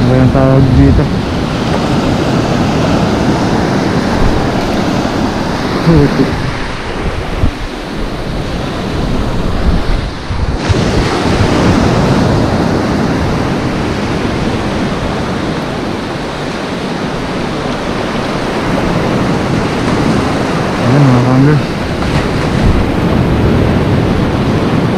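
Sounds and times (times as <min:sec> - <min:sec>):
surf washing over reef: 0:00.0 - 0:24.9
wind buffeting microphone: 0:00.0 - 0:24.9.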